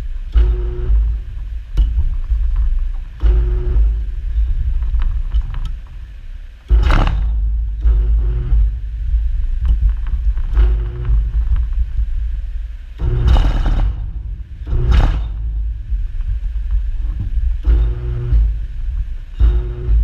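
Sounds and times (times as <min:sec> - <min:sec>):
loud rush of noise: 0:00.0 - 0:20.0
pressure pump rumbling: 0:00.0 - 0:20.0.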